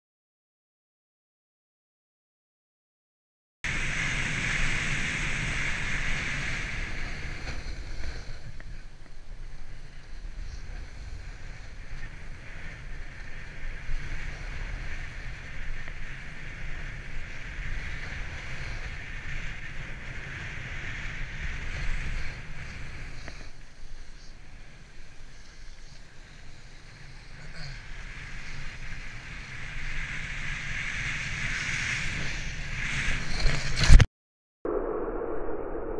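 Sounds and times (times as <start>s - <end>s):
snowboard scraping on snow: 3.7s - 8.6s, 9.4s - 34.0s.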